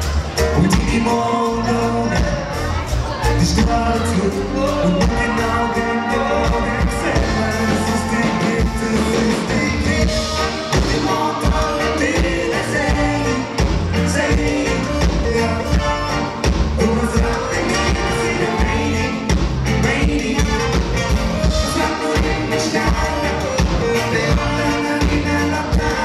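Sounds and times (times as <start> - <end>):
live pop band playing: 0.0 - 26.0.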